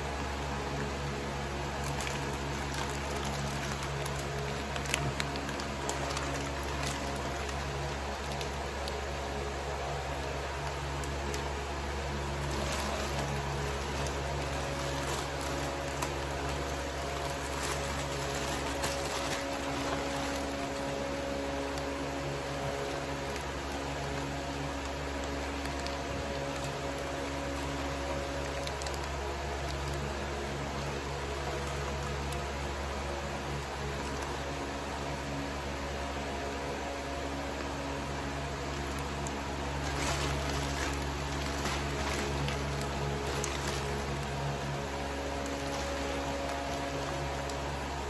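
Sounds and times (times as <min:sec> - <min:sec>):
plastic bags crinkling: 0:00.0 - 0:48.0
steady background hum: 0:00.0 - 0:48.0.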